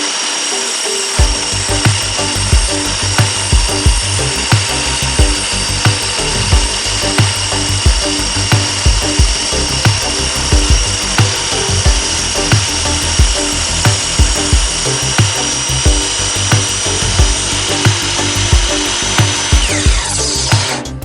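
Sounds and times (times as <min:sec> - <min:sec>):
background music with steady beat: 0:00.0 - 0:21.0
table saw whining through wood: 0:00.0 - 0:21.0.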